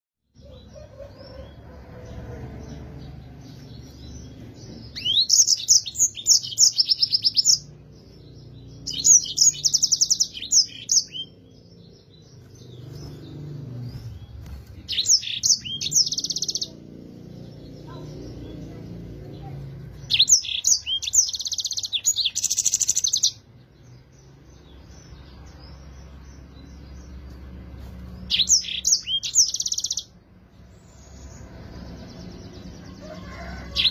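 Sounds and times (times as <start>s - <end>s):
canary singing: 0.3s - 33.9s.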